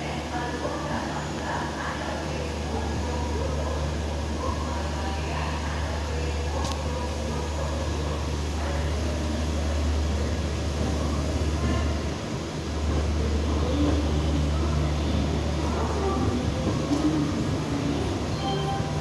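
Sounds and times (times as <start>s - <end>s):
train coaches rolling: 0.0s - 19.0s.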